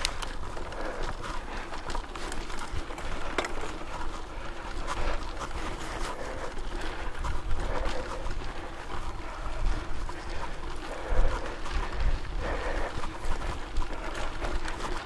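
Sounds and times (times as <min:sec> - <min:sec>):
bike jolts: 0:00.0 - 0:15.0
bike rattling and clicking: 0:00.0 - 0:15.0
bike tyres on dirt: 0:00.0 - 0:15.0.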